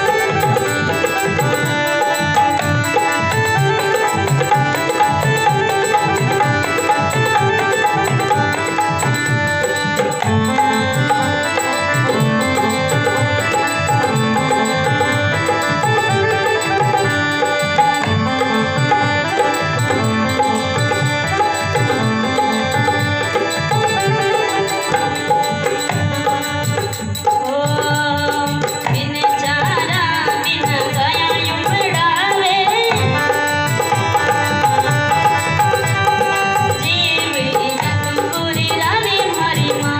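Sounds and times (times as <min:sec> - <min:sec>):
folk devotional song: 0:00.0 - 0:39.9
hand drums: 0:00.0 - 0:39.9
wavering ornamented melody: 0:00.0 - 0:39.9.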